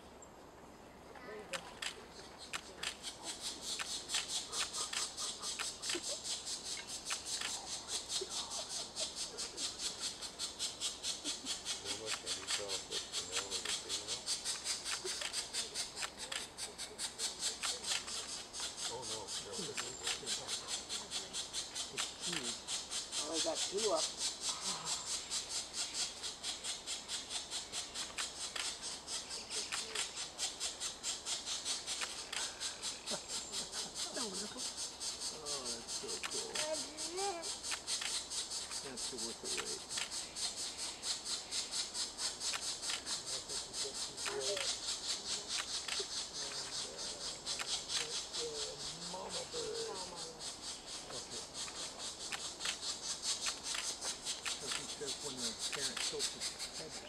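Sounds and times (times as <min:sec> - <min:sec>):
sharp ticks: 0:01.5 - 0:57.0
woodpecker nestlings begging calls: 0:01.6 - 0:57.0.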